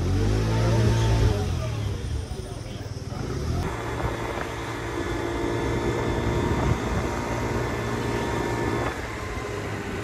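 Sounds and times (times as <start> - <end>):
motor scooter engine running: 0.0 - 10.0
road noise: 0.0 - 10.0.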